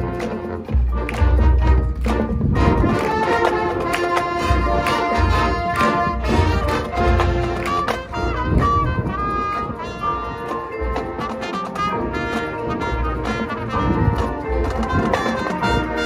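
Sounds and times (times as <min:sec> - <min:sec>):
held brass chords: 0:00.0 - 0:16.0
marching band playing: 0:00.0 - 0:16.0.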